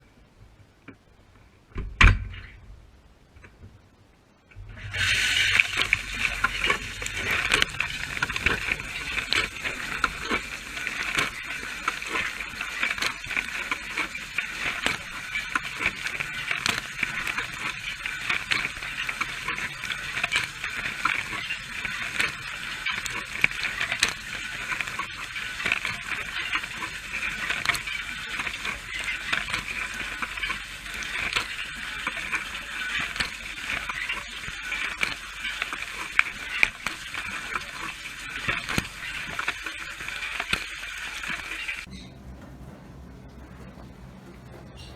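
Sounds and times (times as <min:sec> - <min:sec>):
dishwasher water spray: 0:04.6 - 0:44.9.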